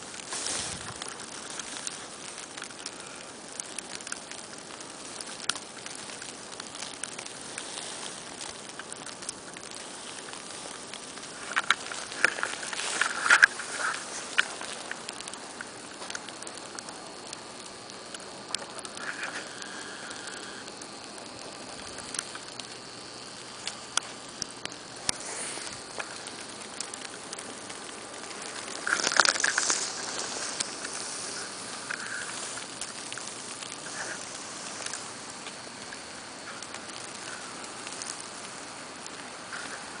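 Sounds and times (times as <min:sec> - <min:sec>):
snow pattering on surfaces: 0:00.0 - 0:40.0
snowstorm hiss: 0:00.0 - 0:40.0.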